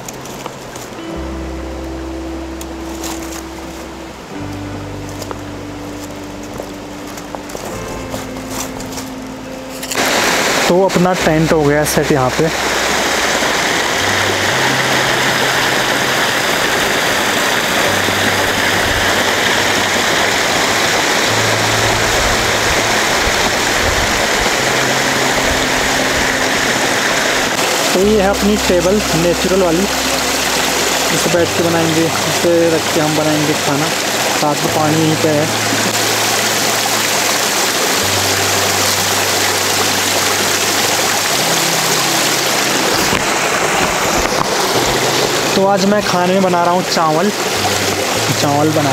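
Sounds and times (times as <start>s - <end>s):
stream rushing over boulders: 0.0s - 48.9s.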